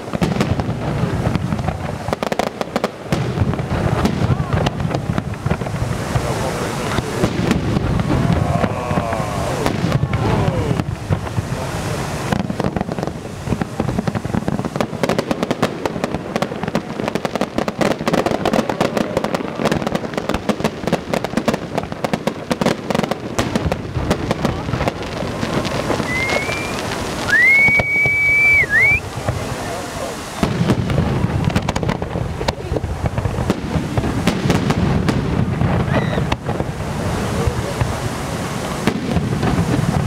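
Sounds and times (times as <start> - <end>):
firework shells bursting: 0.0 - 40.0
fireworks crackling: 0.0 - 40.0.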